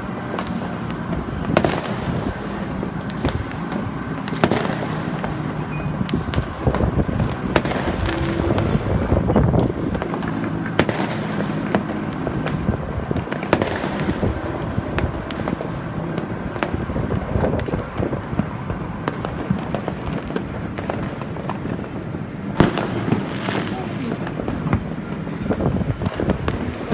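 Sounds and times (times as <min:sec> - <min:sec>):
fireworks rumbling and crackling: 0:00.0 - 0:26.9
sharp firework bangs: 0:00.0 - 0:26.9.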